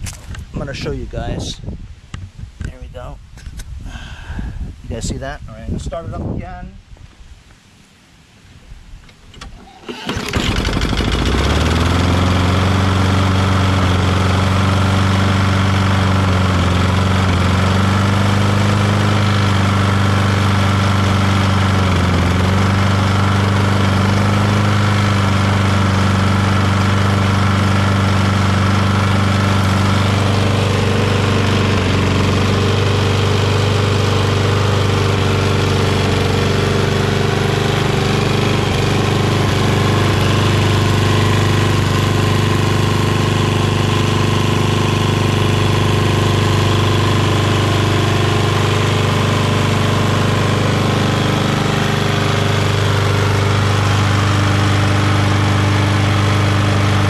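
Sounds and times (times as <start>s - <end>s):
lawn mower engine running: 9.4s - 57.0s.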